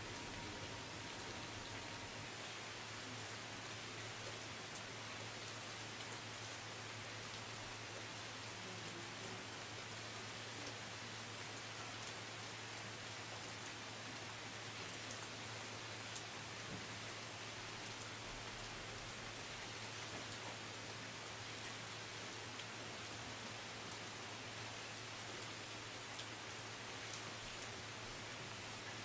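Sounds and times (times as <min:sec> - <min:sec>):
sharp ticks of raindrops: 0:00.0 - 0:29.0
steady rain falling: 0:00.0 - 0:29.0.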